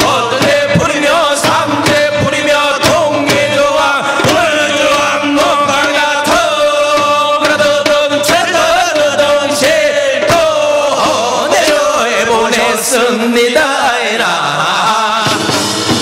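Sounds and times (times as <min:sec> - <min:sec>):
drum strokes: 0:00.0 - 0:16.0
men singing a chant: 0:00.0 - 0:16.0.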